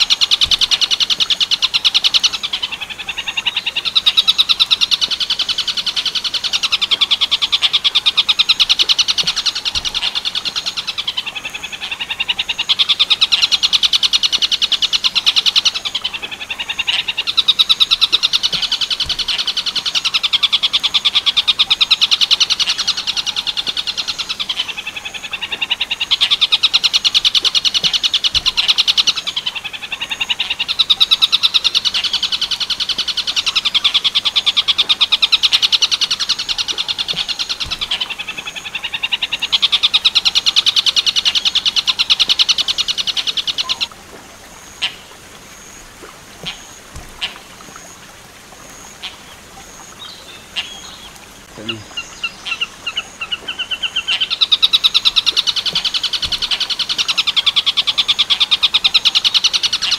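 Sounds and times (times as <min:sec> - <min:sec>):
kingfisher rattling call: 0:03.5 - 0:44.0, 0:50.5 - 0:59.9.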